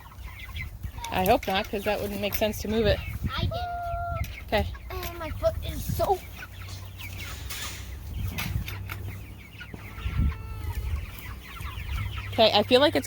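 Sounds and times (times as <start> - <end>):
chickens clucking and calling: 0.0 - 13.0.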